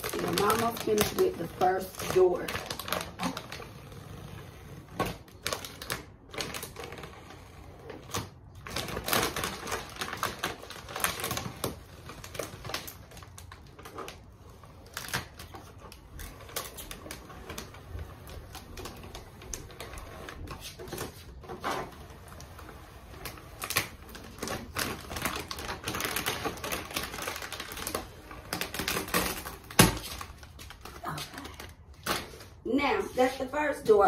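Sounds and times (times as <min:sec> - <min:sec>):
vinyl wrap peeling crackle: 0:00.0 - 0:32.4.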